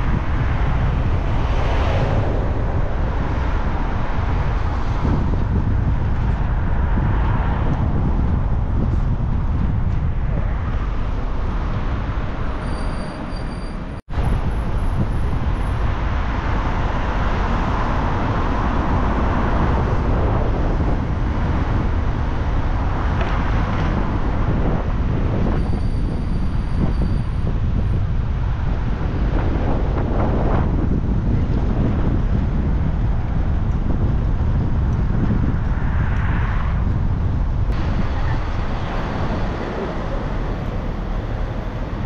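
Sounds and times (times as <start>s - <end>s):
car road and wind noise: 0.0s - 42.0s.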